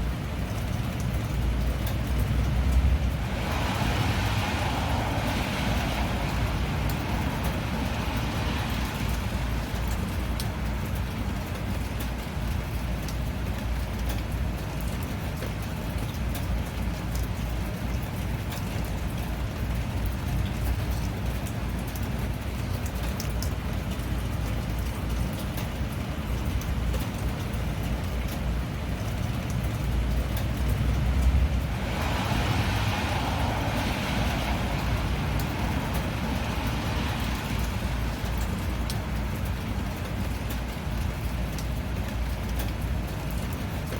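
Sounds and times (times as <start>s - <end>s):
raindrops ticking close by: 0.0s - 43.9s
steady rain: 0.0s - 43.9s.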